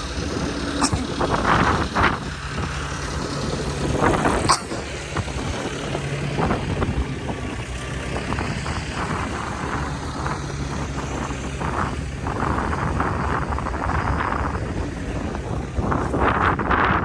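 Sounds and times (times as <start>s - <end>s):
forklift engine running: 0.0s - 17.0s
wind buffeting microphone: 0.0s - 17.0s.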